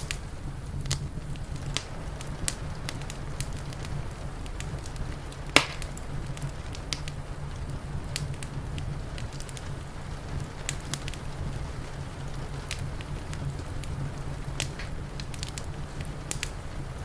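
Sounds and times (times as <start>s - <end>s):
fire popping and snapping: 0.0s - 17.0s
steady low rumble: 0.0s - 17.0s
wood fire crackling: 0.0s - 17.0s.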